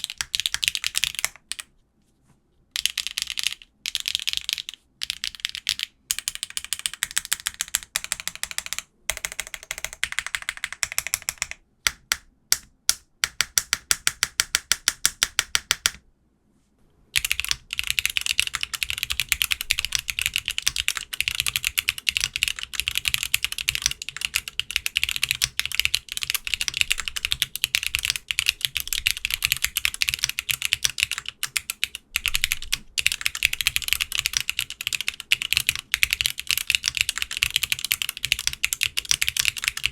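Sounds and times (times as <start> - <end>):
mechanical keyboard typing: 0.0 - 1.7, 2.8 - 16.0, 17.2 - 39.9.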